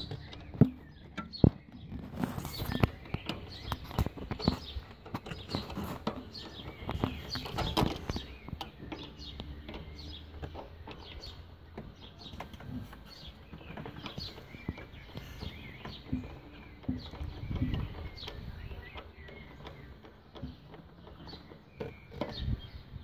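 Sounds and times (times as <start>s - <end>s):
clicks and knocks of handled parts: 0.0s - 22.7s.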